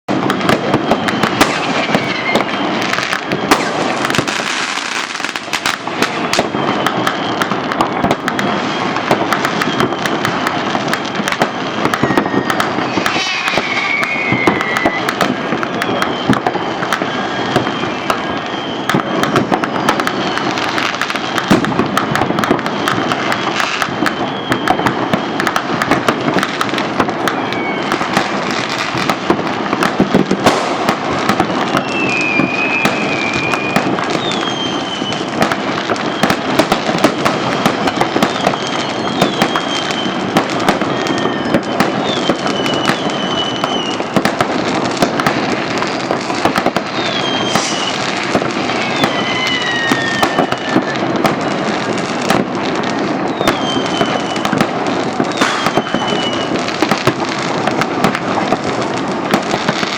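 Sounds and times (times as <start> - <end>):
falling fireworks whistles: 0.0 - 59.9
fireworks bangs and crackling: 0.0 - 59.9.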